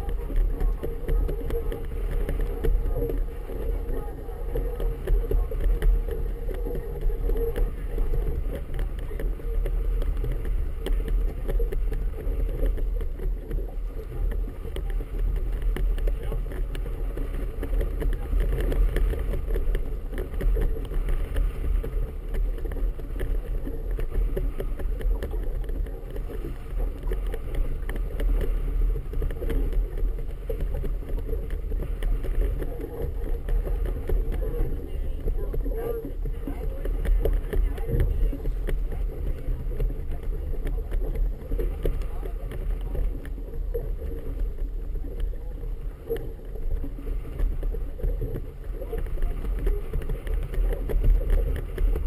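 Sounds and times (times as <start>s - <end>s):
choppy water around a boat: 0.0s - 52.0s
wind rumble on microphone: 0.0s - 52.0s.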